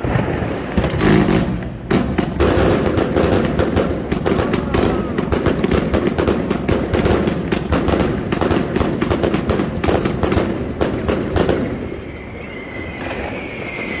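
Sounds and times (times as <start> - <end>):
fireworks cracking and banging: 0.0 - 14.0.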